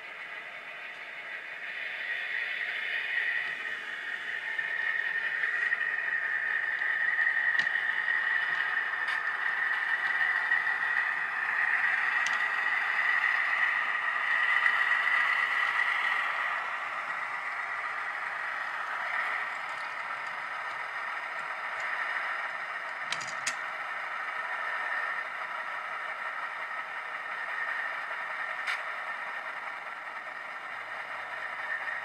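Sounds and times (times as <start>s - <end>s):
model train diesel engine sound: 0.0s - 32.0s
model train rolling noise: 0.0s - 32.0s.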